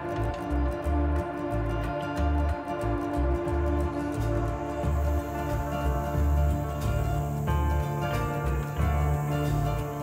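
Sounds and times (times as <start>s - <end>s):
plucked guitar-like notes: 0.0s - 10.0s
pulsing bass line: 0.0s - 10.0s.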